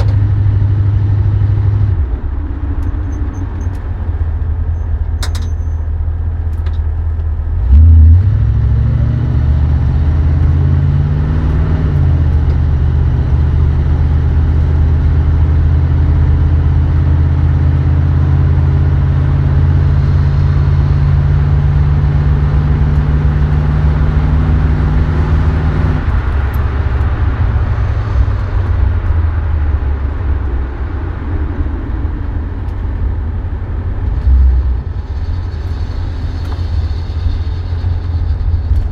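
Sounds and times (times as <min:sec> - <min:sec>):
car engine running under load: 0:00.0 - 0:38.9.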